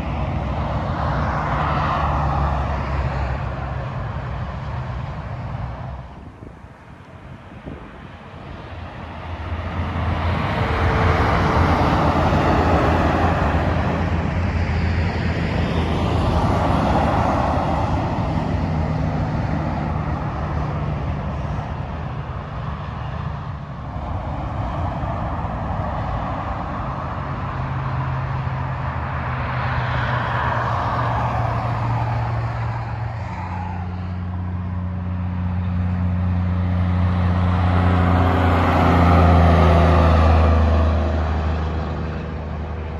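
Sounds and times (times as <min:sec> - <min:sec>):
diesel truck engines droning: 0:00.0 - 0:42.9
tyre noise of passing vehicles: 0:00.0 - 0:42.9.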